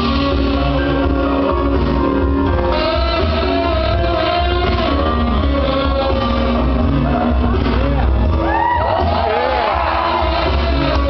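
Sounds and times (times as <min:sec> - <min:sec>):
song with singing and guitar: 0:00.0 - 0:11.0
steady bass line: 0:00.0 - 0:11.0.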